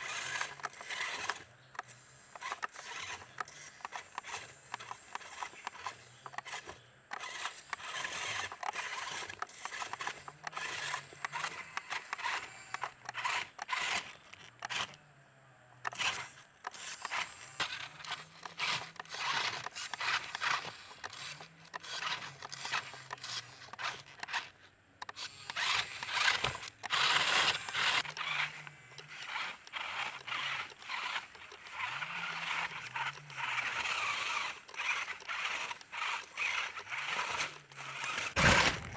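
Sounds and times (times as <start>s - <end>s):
tyres scraping and crunching: 0.0s - 15.0s, 15.8s - 38.9s
rc truck motor hum: 0.0s - 38.9s.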